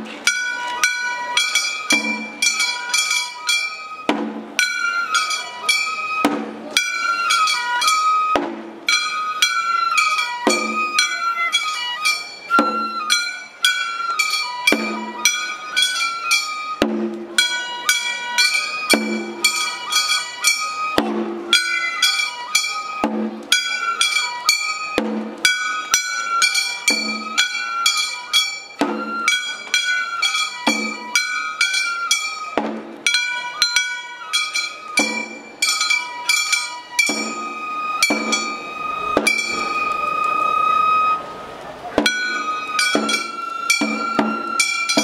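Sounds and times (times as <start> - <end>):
taiko drum strokes: 0.0 - 45.0
transverse flutes playing melody: 0.1 - 45.0.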